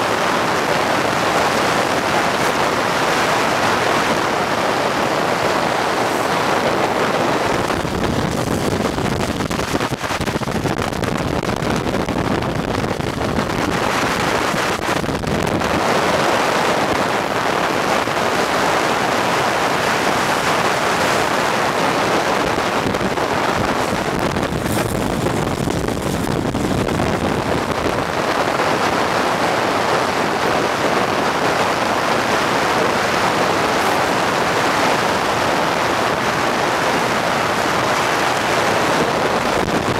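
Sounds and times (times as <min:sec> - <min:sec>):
road noise: 0:00.0 - 0:39.9
wind on microphone: 0:00.0 - 0:39.9.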